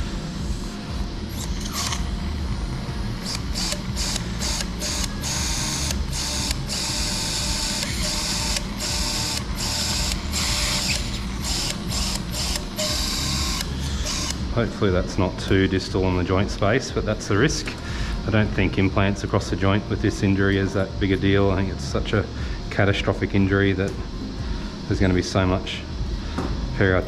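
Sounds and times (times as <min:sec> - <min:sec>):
surgical drill whirring: 0:00.0 - 0:23.8.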